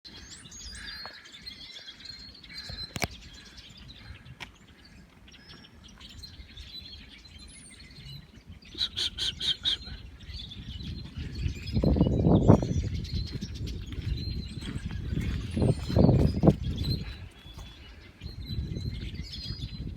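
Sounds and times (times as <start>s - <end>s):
birds chirping and singing: 0.1s - 19.9s.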